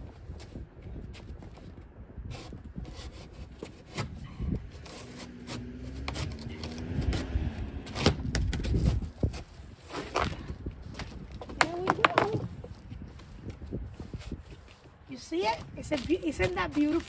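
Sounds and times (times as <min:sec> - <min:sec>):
wind rumble on microphone: 0:00.0 - 0:17.0
cardboard box rustling and scraping: 0:01.2 - 0:17.0.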